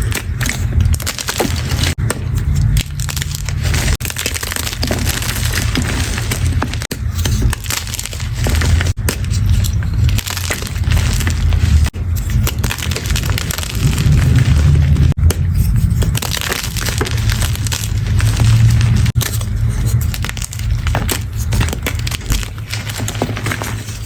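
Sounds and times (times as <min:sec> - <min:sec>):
chalk crunching and crumbling: 0:00.0 - 0:24.0.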